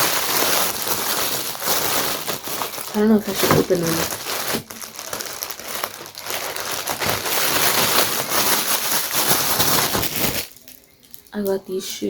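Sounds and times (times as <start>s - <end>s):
packaging crinkling: 0.0s - 11.6s.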